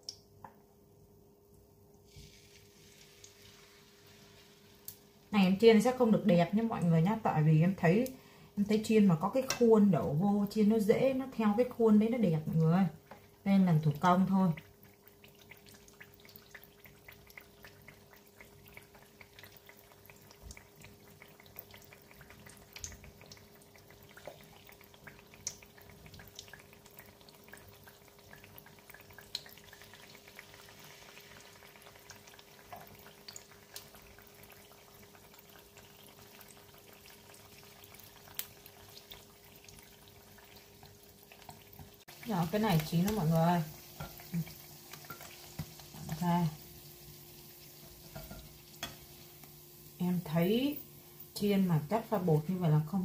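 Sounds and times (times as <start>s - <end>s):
faint steady hum: 0.0s - 53.0s
food sizzling in oil: 2.0s - 53.0s.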